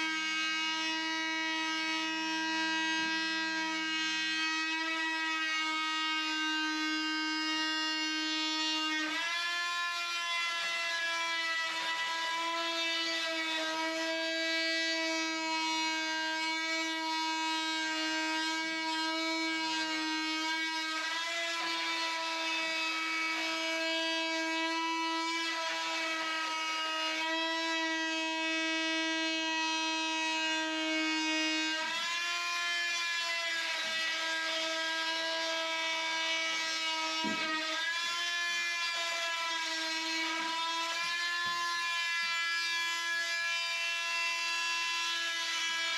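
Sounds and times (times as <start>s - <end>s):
power tool motor whining: 0.0s - 45.9s.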